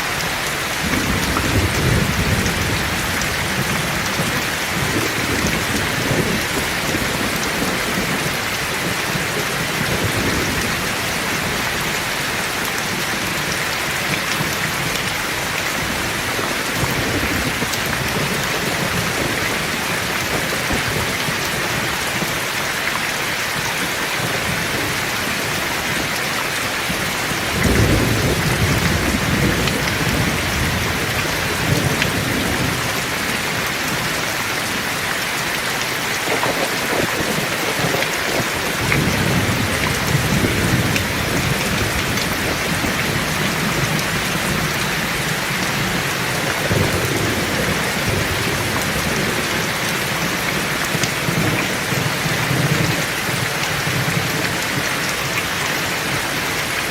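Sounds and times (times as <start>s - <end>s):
heavy rain falling: 0.0s - 56.9s
thunder rumbling: 0.7s - 22.6s, 23.2s - 35.1s, 35.8s - 54.9s.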